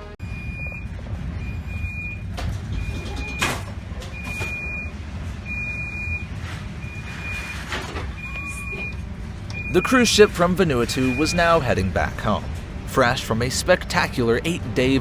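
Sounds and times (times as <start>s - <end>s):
continuous low rumble: 0.0s - 15.0s.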